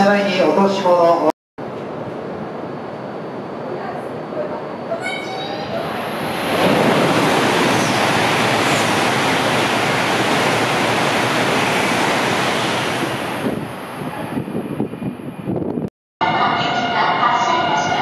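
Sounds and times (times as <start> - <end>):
high-speed train passing: 1.6 - 18.0.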